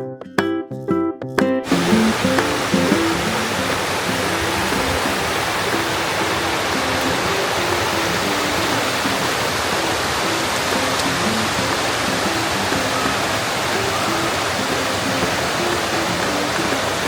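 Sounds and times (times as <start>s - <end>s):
water rushing in a stream: 1.6s - 17.0s.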